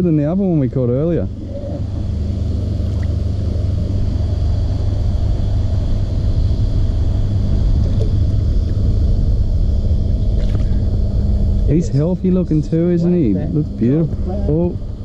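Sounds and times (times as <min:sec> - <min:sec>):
motor running with low hum: 0:00.0 - 0:15.0.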